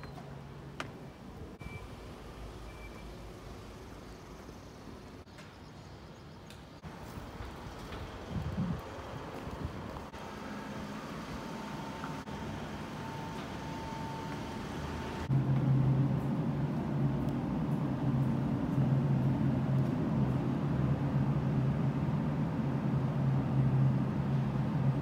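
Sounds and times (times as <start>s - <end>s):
low hum of tunnel drone: 0.4s - 25.0s.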